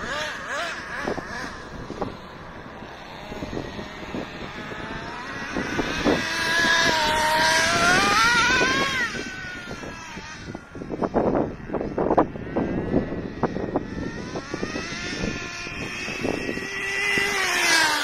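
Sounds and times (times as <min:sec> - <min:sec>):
rc truck nitro engine revving: 0:00.0 - 0:18.0.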